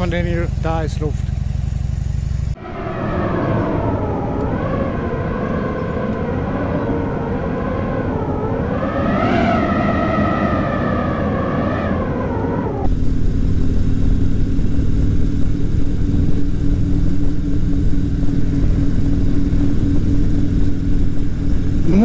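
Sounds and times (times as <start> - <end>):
motorcycle engine cruising: 0.0 - 22.0
swelling and falling tones: 2.5 - 22.0
wind noise on microphone: 2.5 - 22.0.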